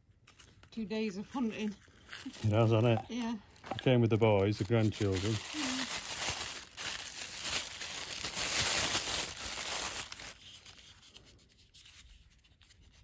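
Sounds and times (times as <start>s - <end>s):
plastic bag crinkling: 0.1s - 11.4s.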